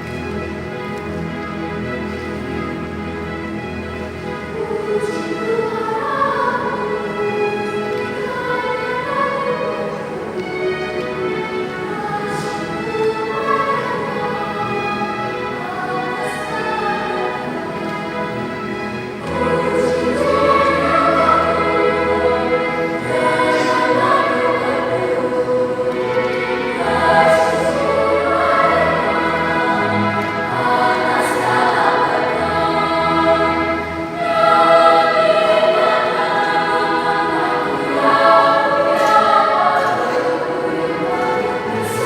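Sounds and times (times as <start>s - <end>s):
children's choir singing: 0.0s - 42.0s.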